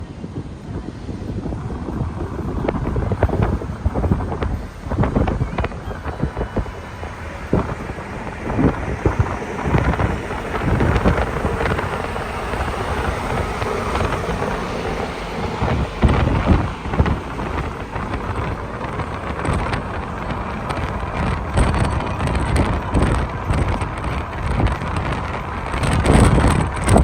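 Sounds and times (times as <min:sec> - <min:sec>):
sea waves: 0:00.0 - 0:27.0
wind buffeting microphone: 0:00.0 - 0:27.0.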